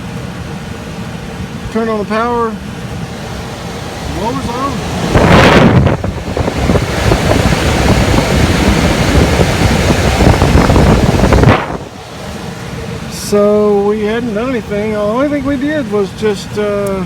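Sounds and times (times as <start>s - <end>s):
blower air rushing: 0.0s - 17.0s.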